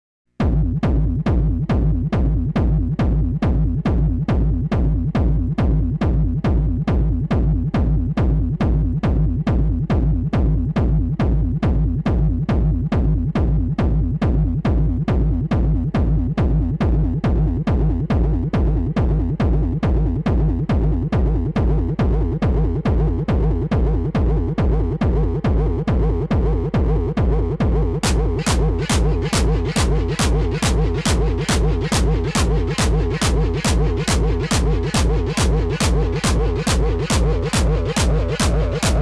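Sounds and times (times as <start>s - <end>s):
deep bass line: 0.4s - 39.0s
techno kick drum: 0.4s - 39.0s.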